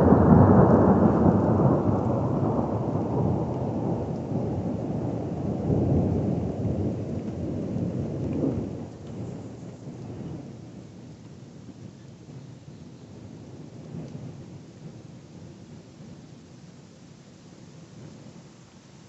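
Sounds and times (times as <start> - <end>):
rolling thunder: 0.0 - 16.5.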